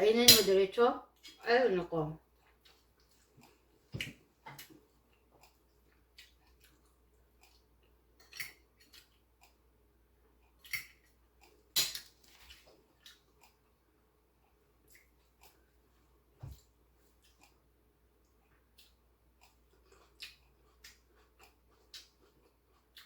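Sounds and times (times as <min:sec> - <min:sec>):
person chewing noodles: 0:02.2 - 0:23.0.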